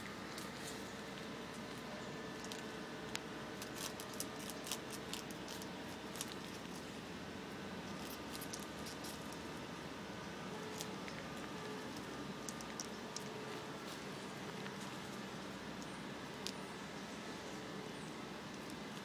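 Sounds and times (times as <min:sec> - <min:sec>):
squirrel gnawing palm stalk: 0:00.0 - 0:19.0.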